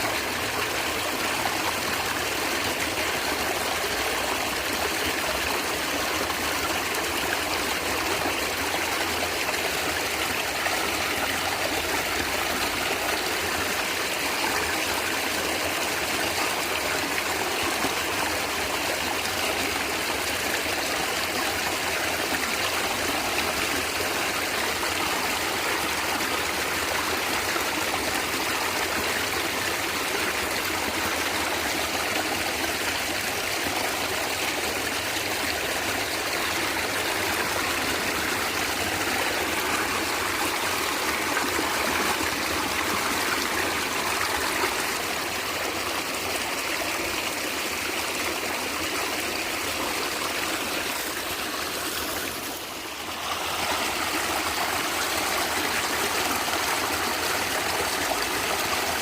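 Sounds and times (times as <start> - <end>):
stream water flowing and gurgling: 0.0 - 59.0.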